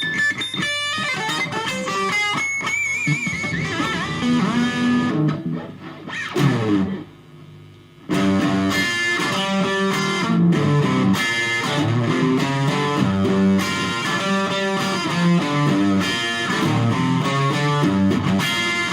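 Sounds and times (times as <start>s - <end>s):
electric guitar single-note lines: 0.0s - 18.9s.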